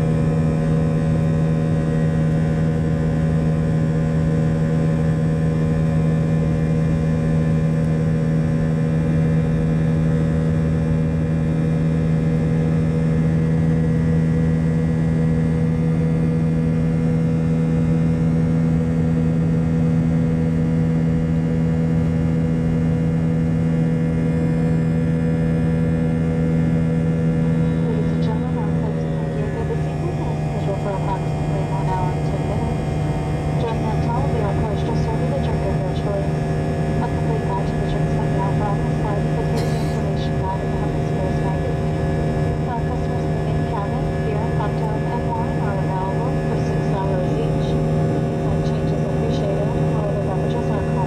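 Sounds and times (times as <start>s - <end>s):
jet engines droning: 0.0s - 51.0s.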